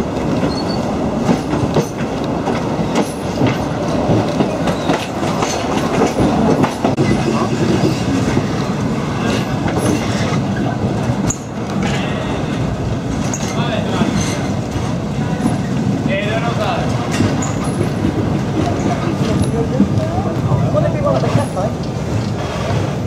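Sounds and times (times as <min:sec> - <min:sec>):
train carriage rumble and rattle: 0:00.0 - 0:23.0
wheels clacking over rail joints: 0:00.1 - 0:23.0.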